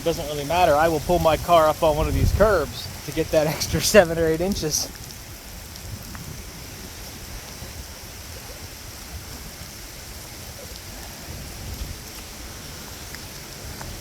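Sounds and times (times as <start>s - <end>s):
steady rain: 0.0s - 14.0s
wind rumbling on microphone: 0.0s - 14.0s.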